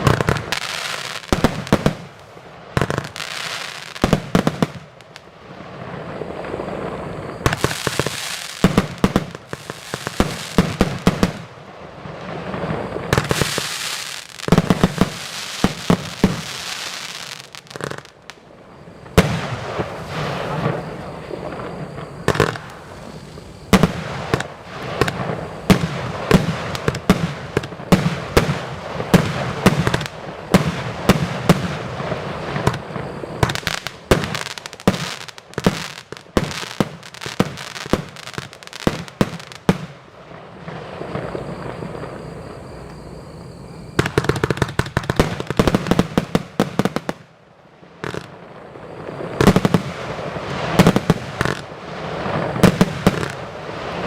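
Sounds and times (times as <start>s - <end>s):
fireworks launching and bursting: 0.0s - 43.0s, 43.8s - 54.0s.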